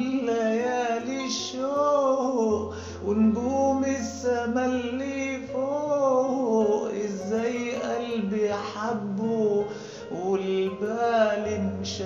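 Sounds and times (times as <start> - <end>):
instrumental backing with bass: 0.0 - 12.0.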